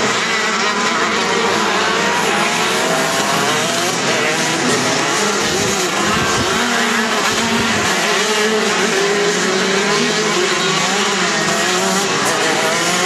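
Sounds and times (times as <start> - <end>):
kart engines revving: 0.0 - 13.0.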